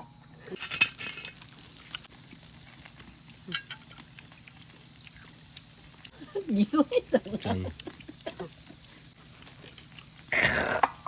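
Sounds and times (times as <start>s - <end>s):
fire crackling and sizzling: 0.0s - 11.0s.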